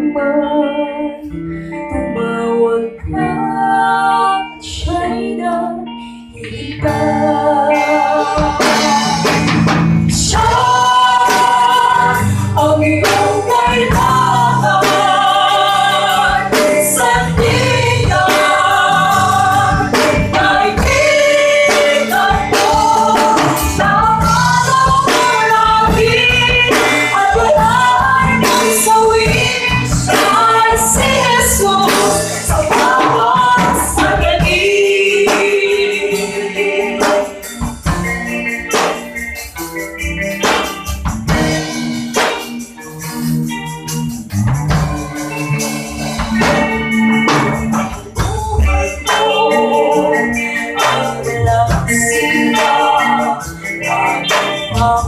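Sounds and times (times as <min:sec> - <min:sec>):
live band playing: 0:00.0 - 0:55.0
people singing together: 0:02.2 - 0:37.7, 0:46.2 - 0:55.0.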